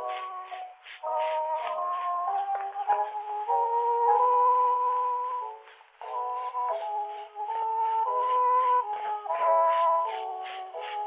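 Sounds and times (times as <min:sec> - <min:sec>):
muffled phonograph instrumental music: 0:00.0 - 0:11.0.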